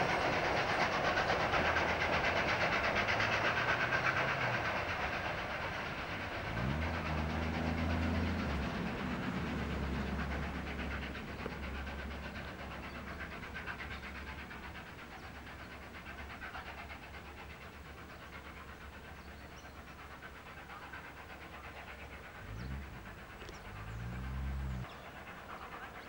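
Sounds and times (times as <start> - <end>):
steam locomotive exhaust beats: 0.0 - 26.0.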